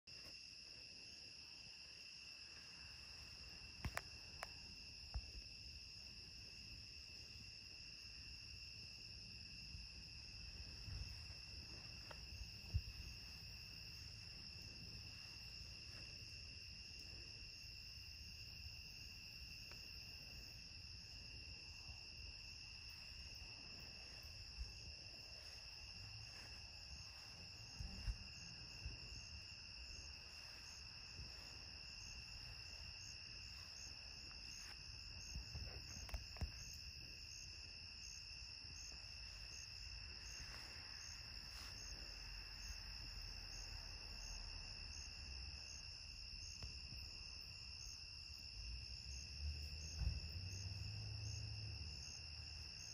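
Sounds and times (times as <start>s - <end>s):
crickets trilling: 0.1s - 52.9s.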